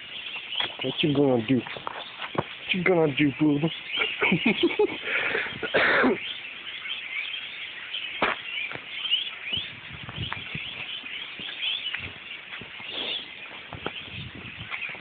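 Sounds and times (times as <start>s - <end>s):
flock of birds chirping: 0.0s - 15.0s.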